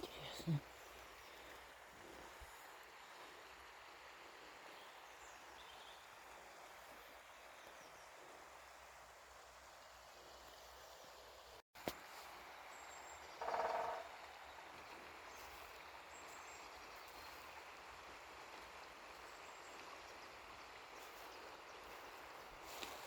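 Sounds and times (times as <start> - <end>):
faint outdoor hiss: 0.0 - 23.0.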